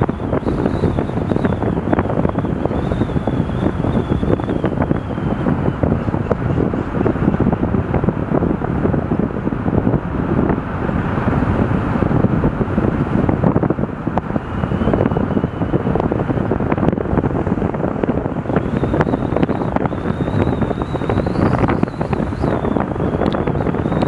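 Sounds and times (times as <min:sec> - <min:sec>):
road and tyre noise: 0:00.0 - 0:24.0
wind buffeting microphone: 0:00.0 - 0:24.0.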